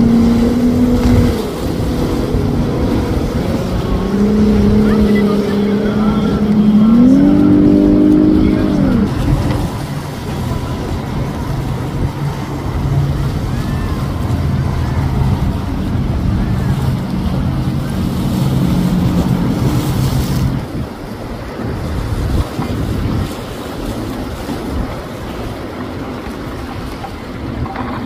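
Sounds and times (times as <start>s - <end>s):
motorboat engine drone: 0.0s - 28.0s
water rushing past hull: 0.0s - 28.0s
wind on microphone: 0.0s - 28.0s.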